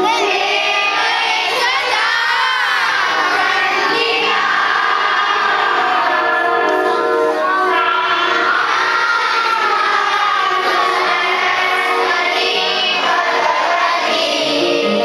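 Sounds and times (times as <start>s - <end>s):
high voices singing: 0.0s - 15.0s
instrumental accompaniment: 0.0s - 15.0s.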